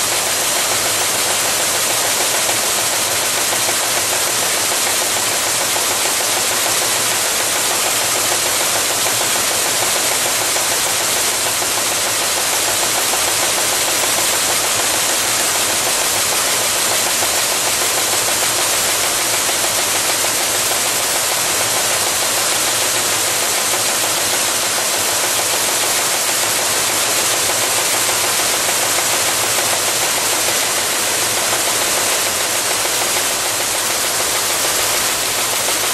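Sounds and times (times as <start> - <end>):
welding machine hiss: 0.0 - 35.9.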